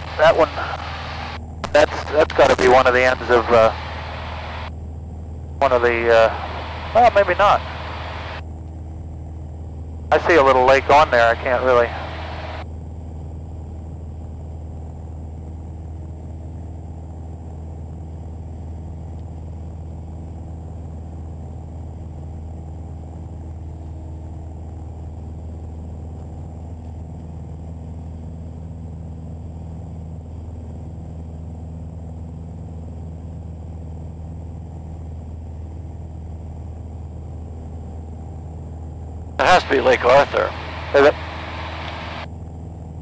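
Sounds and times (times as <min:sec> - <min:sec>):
muffled propeller plane drone: 0:00.0 - 0:43.0.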